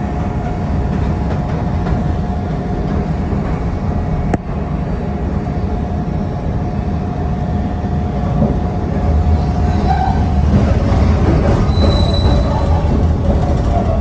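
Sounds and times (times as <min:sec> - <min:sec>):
train wheels and motors rumbling: 0:00.0 - 0:14.0.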